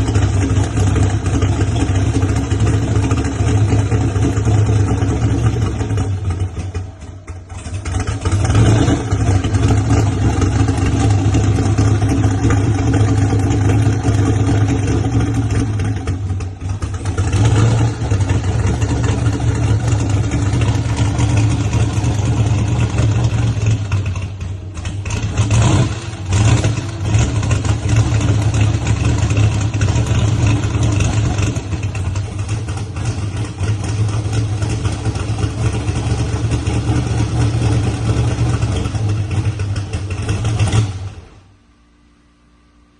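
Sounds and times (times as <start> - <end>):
loud car engine running: 0.0 - 41.6.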